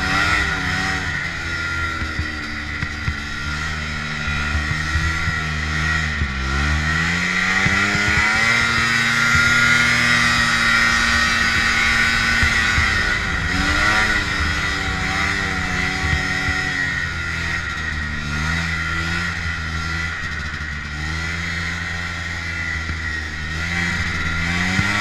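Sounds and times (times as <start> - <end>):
snowmobile engine: 0.0 - 25.0.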